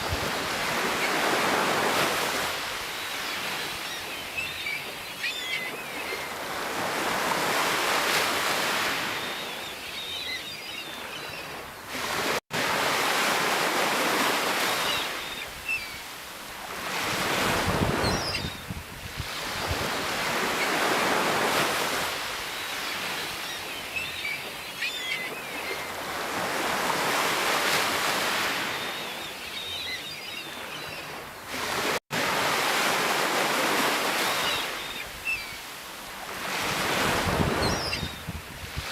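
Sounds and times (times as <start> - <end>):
sea waves breaking: 0.0 - 10.1, 11.0 - 18.4, 19.2 - 29.8, 30.4 - 38.9.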